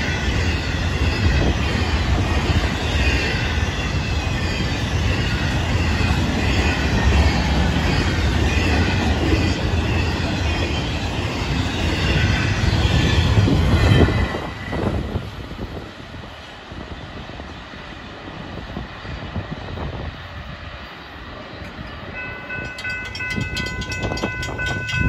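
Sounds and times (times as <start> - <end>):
freight cars rumbling on rails: 0.0 - 25.0.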